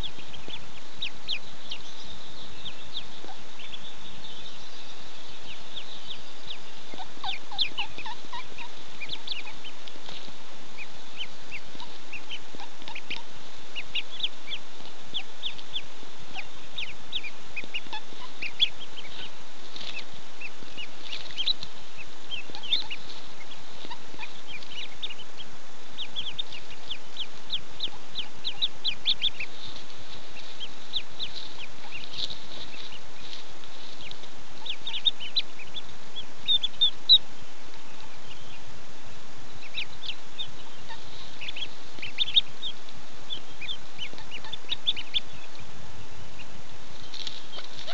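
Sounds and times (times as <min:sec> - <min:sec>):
ducklings peeping: 0:00.0 - 0:47.9
steady background hiss: 0:00.0 - 0:47.9.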